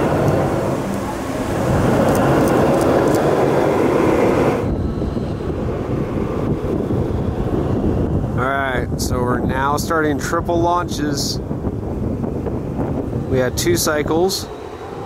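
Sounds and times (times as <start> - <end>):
roller coaster train rushing rumble: 0.0 - 15.0.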